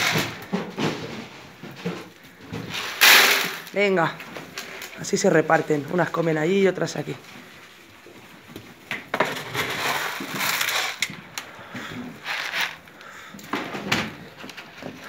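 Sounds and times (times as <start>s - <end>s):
goats scuffling: 0.0s - 15.0s.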